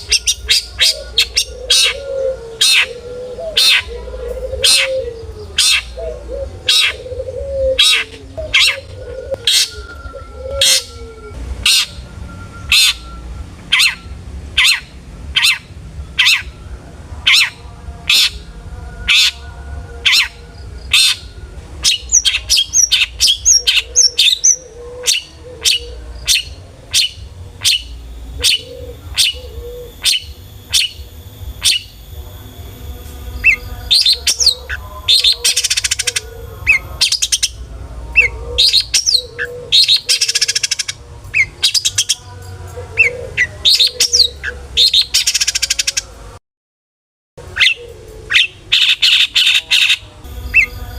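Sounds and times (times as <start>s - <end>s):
shrike calling sharp notes: 0.0s - 42.4s, 47.5s - 50.9s.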